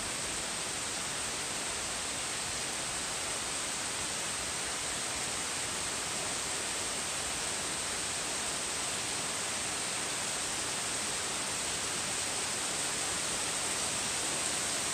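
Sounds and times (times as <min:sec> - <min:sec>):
heavy rain on leaves and grass: 0:00.0 - 0:14.9.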